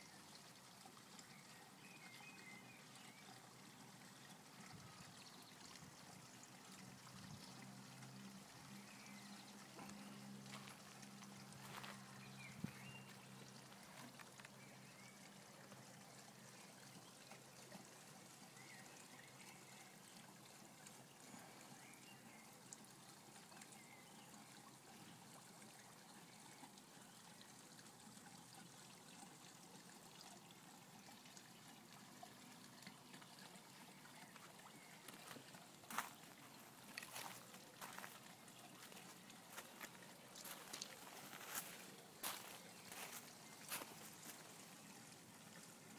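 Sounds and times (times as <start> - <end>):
water trickling into pond: 0.0 - 45.9.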